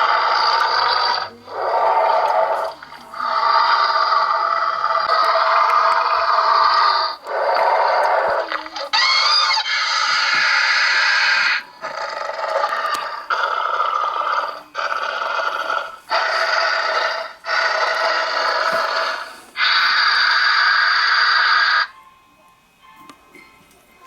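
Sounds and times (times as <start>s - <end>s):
creature hissing and screeching: 0.0s - 21.9s.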